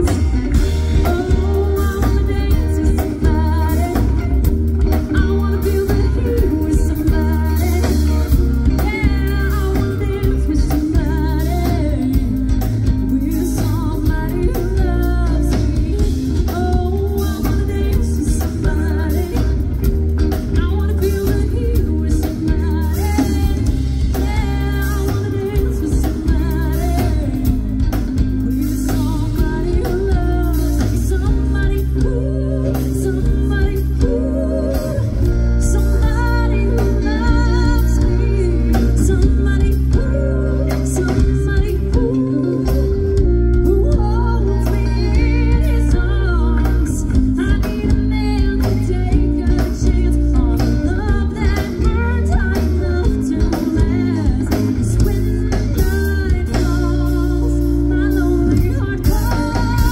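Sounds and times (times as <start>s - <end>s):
bass guitar: 0.0s - 59.9s
drum kit: 0.0s - 59.9s
electric guitar: 0.0s - 59.9s
lead vocal singing: 0.0s - 59.9s.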